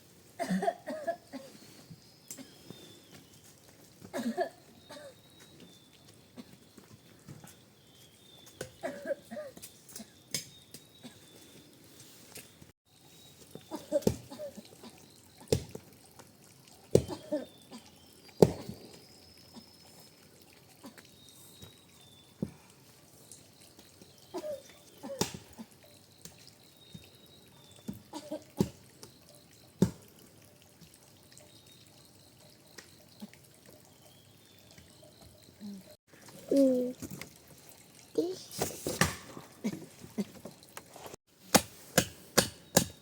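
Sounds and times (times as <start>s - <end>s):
water dripping and splashing: 1.9s - 43.0s.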